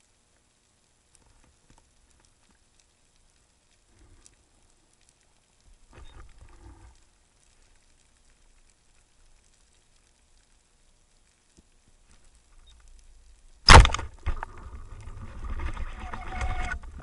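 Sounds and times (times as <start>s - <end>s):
underwater crackling and ticking: 0.0s - 17.0s.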